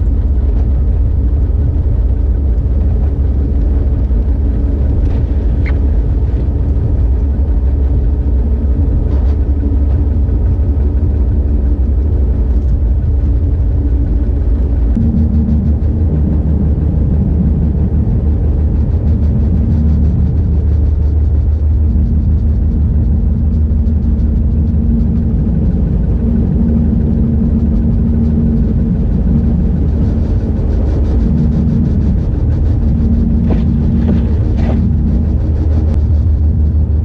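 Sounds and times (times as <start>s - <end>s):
car road noise rumble: 0.0s - 37.0s.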